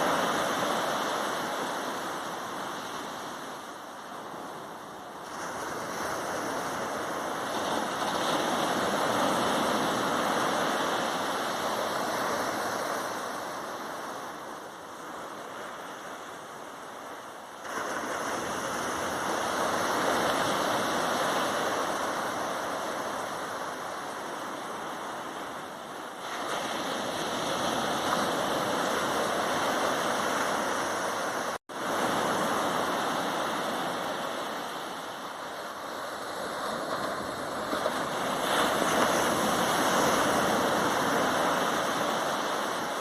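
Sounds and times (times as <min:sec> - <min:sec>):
waves breaking on shore: 0:00.0 - 0:43.0.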